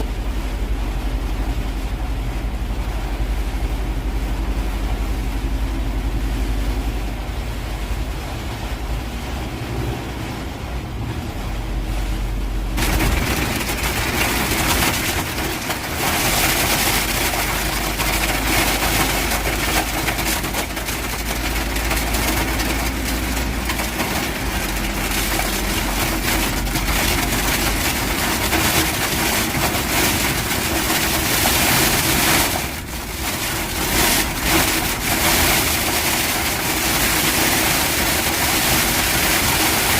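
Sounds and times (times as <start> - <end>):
constant rushing noise: 0.0 - 39.9
truck engine running: 0.0 - 39.9.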